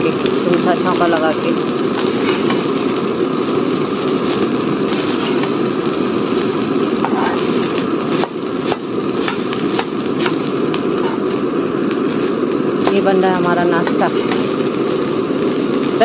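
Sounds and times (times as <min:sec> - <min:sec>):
stove burner rushing: 0:00.4 - 0:15.8.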